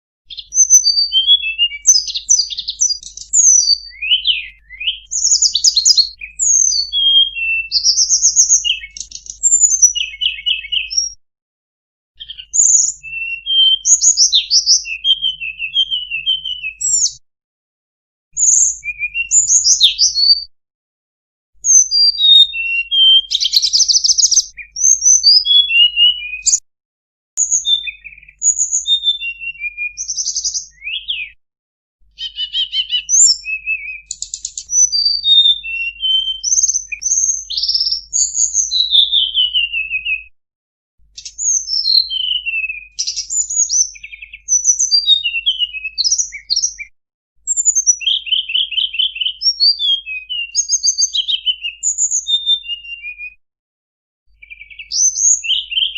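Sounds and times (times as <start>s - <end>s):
songbird singing whistled notes: 0.2s - 11.2s, 12.2s - 17.2s, 18.4s - 20.5s, 21.6s - 26.6s, 27.4s - 31.4s, 32.1s - 40.4s, 41.0s - 53.4s, 54.3s - 55.9s.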